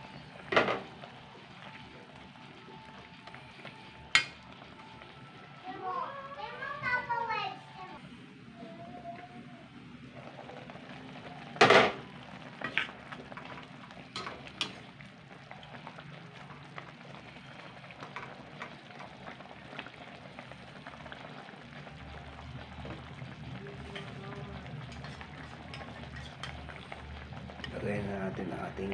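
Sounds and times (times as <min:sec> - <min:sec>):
meat sizzling in a wok: 0:00.0 - 0:07.6, 0:10.1 - 0:28.8.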